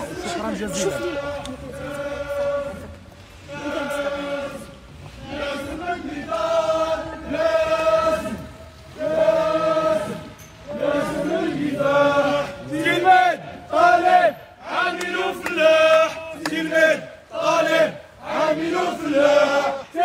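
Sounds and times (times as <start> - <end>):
crowd chanting slogans: 0.0 - 20.0.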